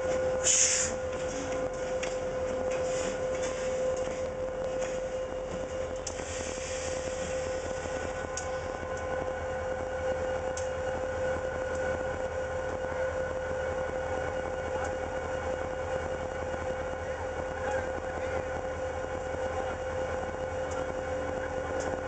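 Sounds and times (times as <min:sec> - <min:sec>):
diesel locomotive engine hum: 0:00.0 - 0:22.0.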